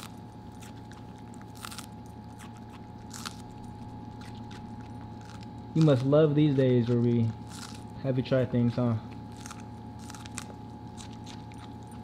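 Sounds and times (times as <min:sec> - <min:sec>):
dog chewing crunchy vegetable: 0:00.0 - 0:12.0.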